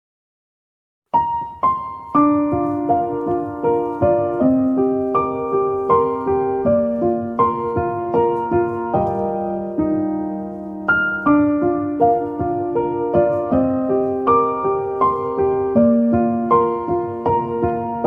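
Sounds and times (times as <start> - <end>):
gentle piano melody: 1.1 - 18.0.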